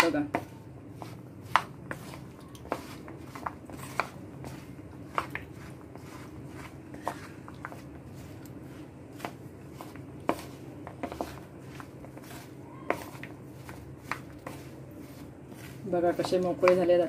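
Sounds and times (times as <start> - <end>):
spoon scraping peanuts in bowl: 0.0 - 17.0.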